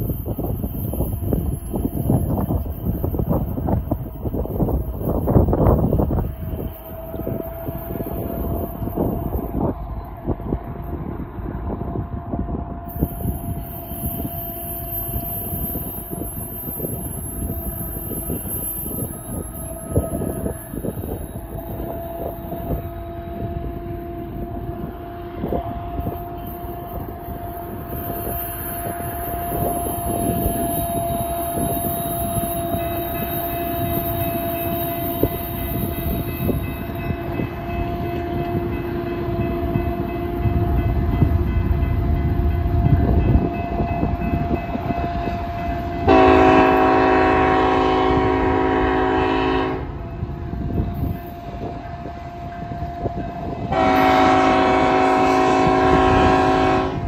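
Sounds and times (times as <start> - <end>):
crossing bell ringing: 0.0 - 11.7, 12.8 - 56.5
train rumble: 0.0 - 57.0
train air horn blasts: 5.7 - 9.7, 11.7 - 40.9, 43.4 - 50.0, 50.9 - 57.0.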